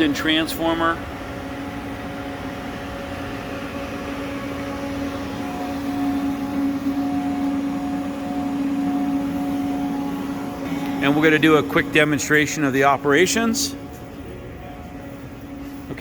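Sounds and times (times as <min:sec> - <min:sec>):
machine electrical hum: 0:00.0 - 0:16.0.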